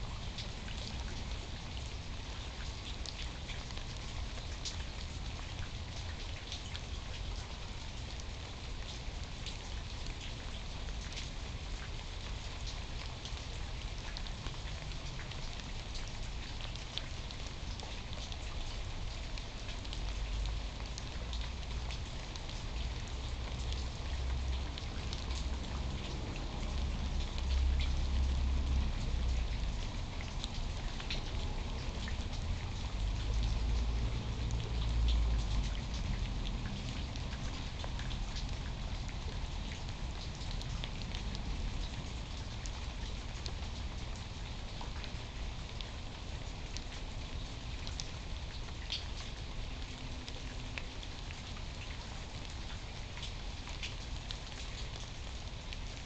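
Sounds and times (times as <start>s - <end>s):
rain falling: 0.0s - 56.0s
raindrops ticking: 0.0s - 56.0s.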